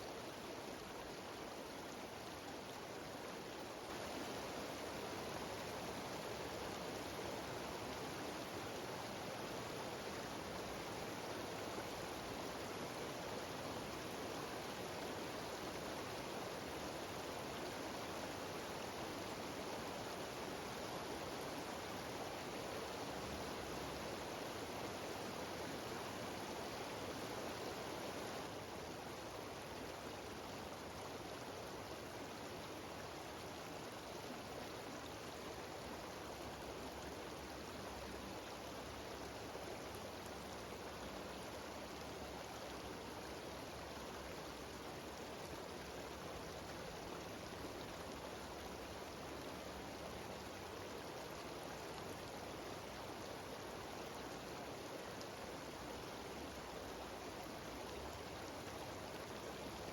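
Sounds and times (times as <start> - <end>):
mountain stream and waterfall rushing: 0.0 - 59.9.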